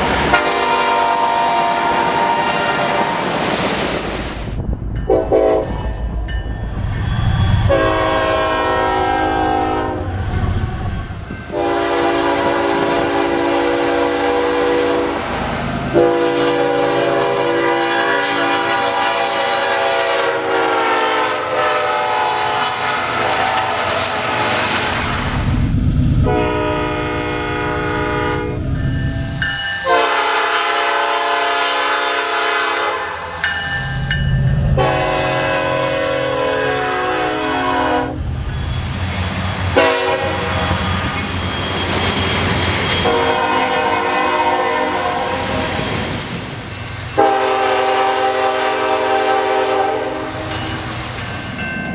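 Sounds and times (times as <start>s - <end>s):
low rumble of passing train: 0.0s - 51.9s
locomotive air horn blasts: 0.3s - 3.4s, 4.4s - 6.2s, 6.8s - 15.2s, 15.9s - 38.6s, 39.8s - 40.7s, 43.0s - 45.5s, 47.2s - 50.5s.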